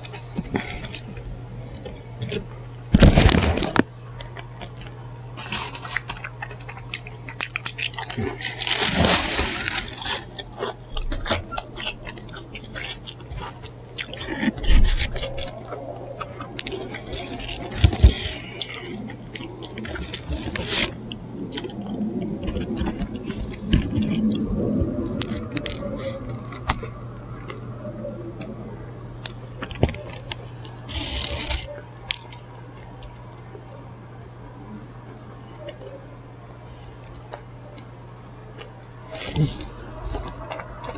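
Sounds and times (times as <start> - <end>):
paper wrappers crinkling: 0.0 - 35.9, 38.6 - 40.9
low electrical hum: 0.0 - 40.9.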